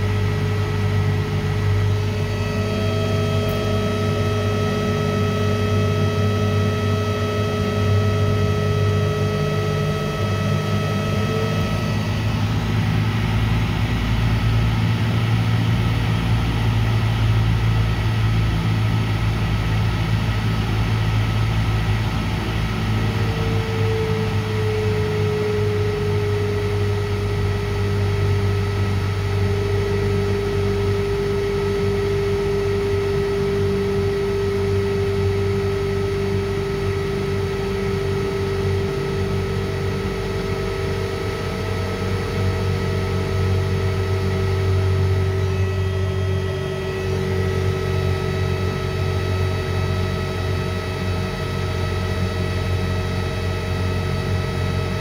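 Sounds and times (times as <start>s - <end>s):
electric motor humming and whining: 0.0s - 55.0s.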